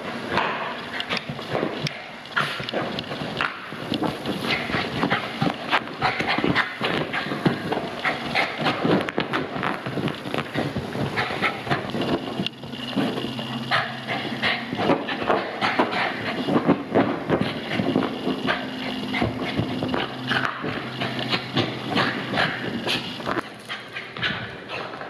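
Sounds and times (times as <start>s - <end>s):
paws scrabbling on upholstery: 0.0s - 25.0s.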